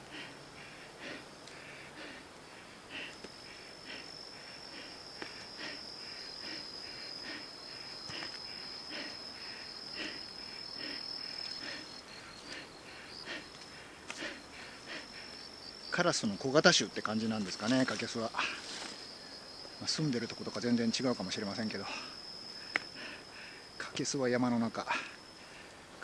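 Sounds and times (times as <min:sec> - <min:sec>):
insect trilling: 0:00.0 - 0:25.8.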